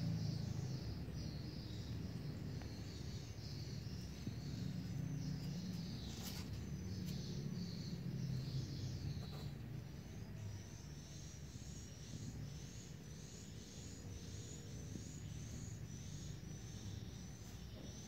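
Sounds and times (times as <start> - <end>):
low steady rumble: 0.0 - 17.1.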